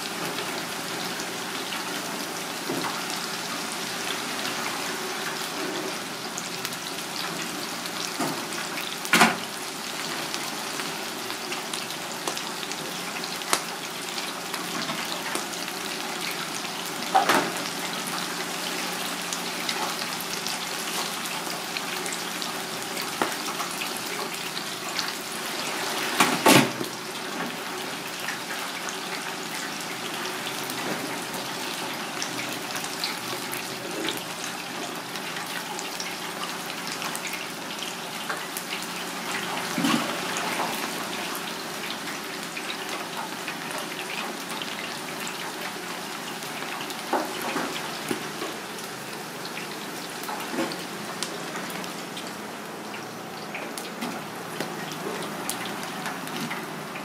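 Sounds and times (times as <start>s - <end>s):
deep-frying oil sizzling: 0.0s - 57.0s.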